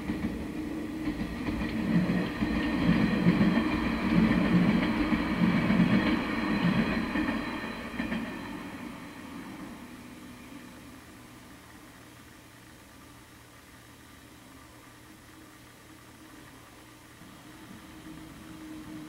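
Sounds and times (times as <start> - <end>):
train passing on rails: 0.0 - 19.0.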